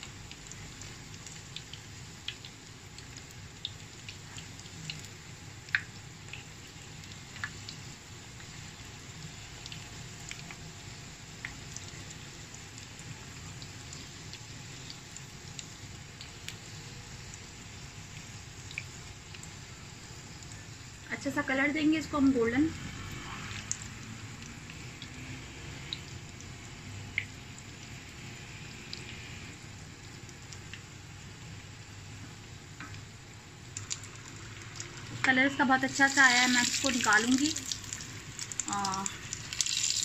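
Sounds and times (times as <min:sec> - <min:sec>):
deep-frying oil sizzling and popping: 0:00.0 - 0:40.0.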